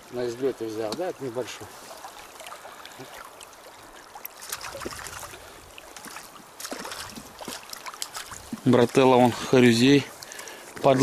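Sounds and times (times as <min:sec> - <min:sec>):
river water rippling: 0:00.0 - 0:11.0
small fish splashing: 0:01.0 - 0:11.0.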